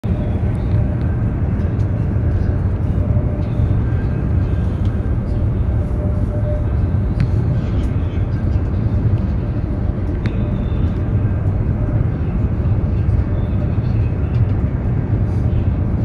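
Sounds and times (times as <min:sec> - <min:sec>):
train rumble inside cabin: 0:00.0 - 0:16.0.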